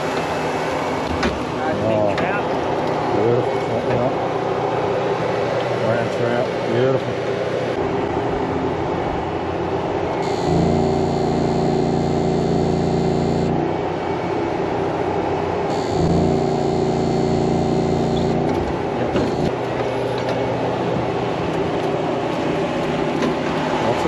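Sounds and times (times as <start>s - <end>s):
boat engine and generator running: 0.0s - 24.0s
loud hum with high whine: 0.0s - 24.0s.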